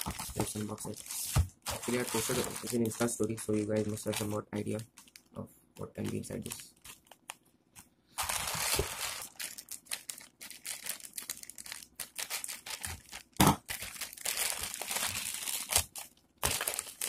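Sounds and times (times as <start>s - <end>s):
plastic bag crinkling: 0.0s - 5.4s, 6.0s - 7.4s, 8.2s - 17.0s.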